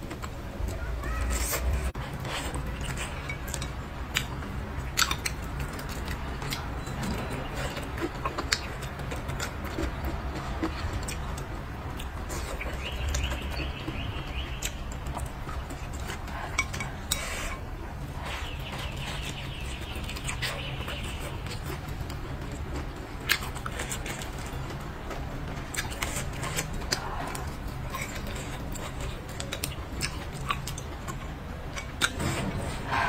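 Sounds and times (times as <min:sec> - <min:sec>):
chewing and mouth sounds: 0:00.0 - 0:33.0.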